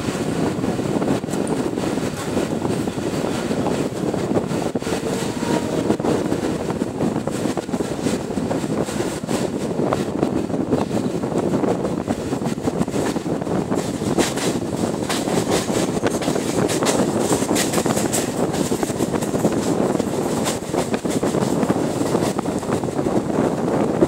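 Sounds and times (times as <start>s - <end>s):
train carriage rumble: 0.0s - 24.0s
wind buffeting microphone: 0.0s - 24.0s.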